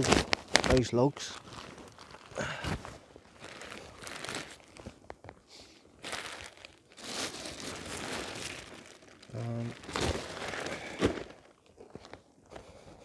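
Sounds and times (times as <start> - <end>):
firewood rustling and crunching: 0.0 - 5.4, 6.0 - 12.2.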